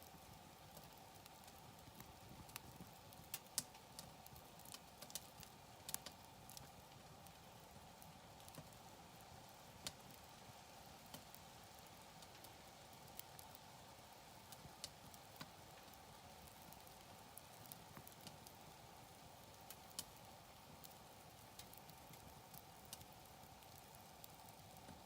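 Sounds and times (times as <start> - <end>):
campfire crackling and popping: 0.0 - 25.0
faint steady hiss: 0.0 - 25.0.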